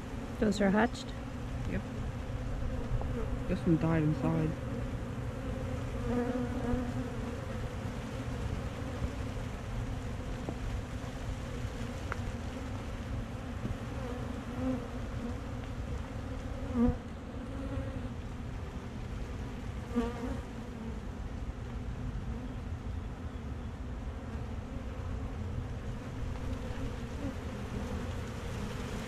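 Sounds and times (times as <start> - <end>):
bee buzzing close by: 0.0 - 21.2, 24.1 - 29.0
honey bees buzzing: 0.0 - 21.2, 24.1 - 29.0.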